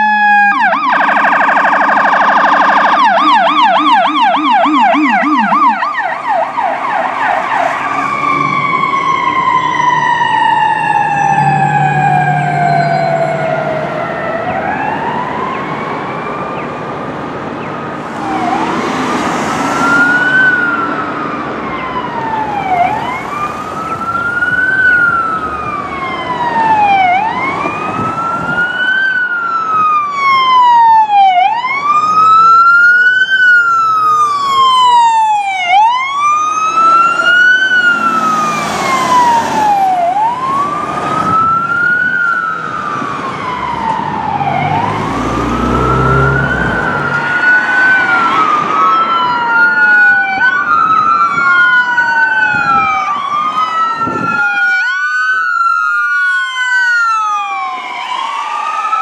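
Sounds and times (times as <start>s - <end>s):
ambulance siren wailing: 0.0s - 59.0s
emergency siren wailing: 0.0s - 59.0s.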